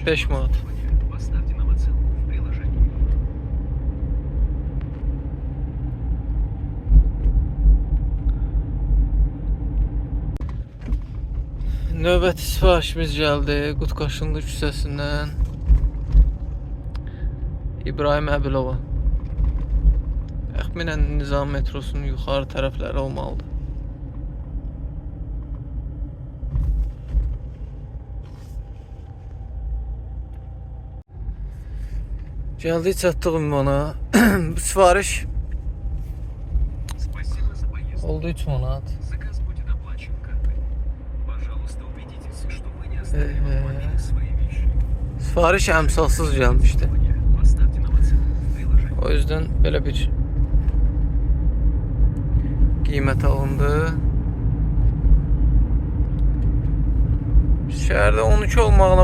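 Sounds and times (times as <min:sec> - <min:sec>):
car rumble inside cabin: 0:00.0 - 0:59.0.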